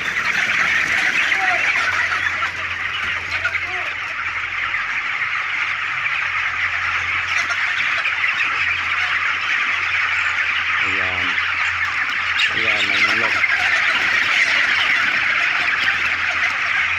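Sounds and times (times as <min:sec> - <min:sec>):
chickens chirping and clucking: 0:00.0 - 0:16.9.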